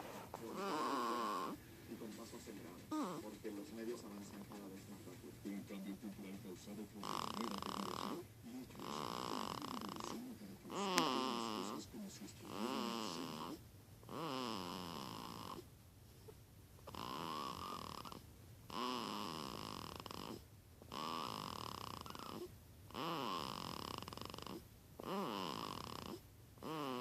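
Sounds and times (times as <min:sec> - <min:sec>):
baby snoring: 0:00.0 - 0:03.4, 0:06.9 - 0:15.7, 0:16.8 - 0:27.0.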